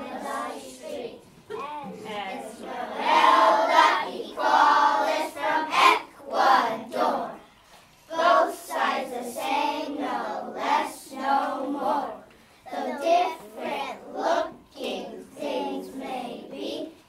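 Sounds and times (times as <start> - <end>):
children singing in unison: 0.0 - 1.2, 2.3 - 7.4, 8.1 - 17.0.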